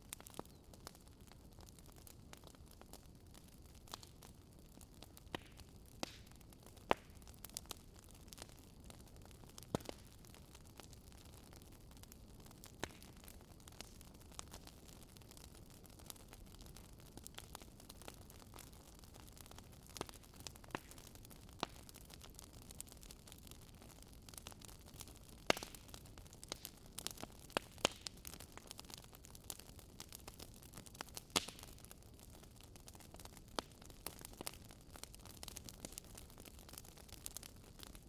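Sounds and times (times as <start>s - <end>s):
wood campfire crackling: 0.0s - 38.0s.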